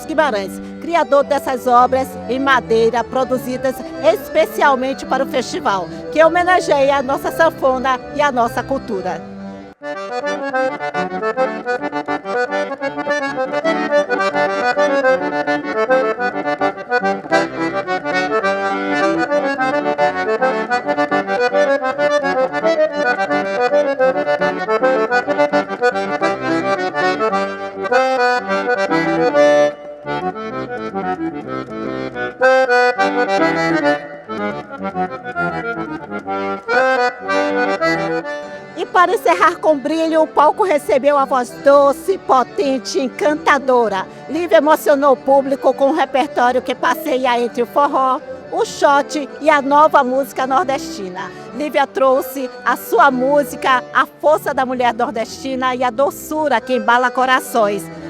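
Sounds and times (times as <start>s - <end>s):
accordion playing: 0.0s - 58.0s.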